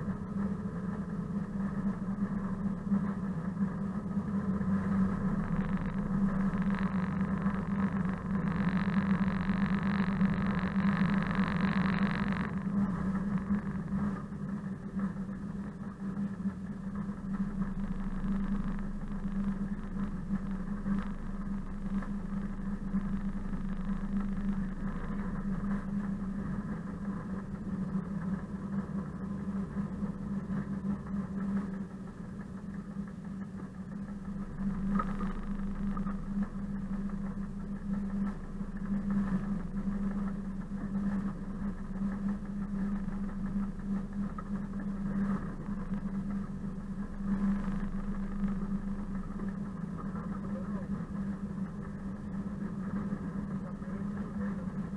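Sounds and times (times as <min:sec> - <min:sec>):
diesel locomotive engine humming: 0:00.0 - 0:54.9.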